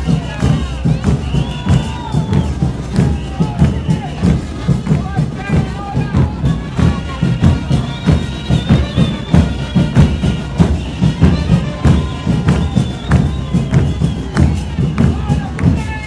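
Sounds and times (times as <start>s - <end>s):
high whistle: 0.0s - 4.4s, 6.8s - 16.0s
bass drums with cymbals: 0.0s - 16.0s.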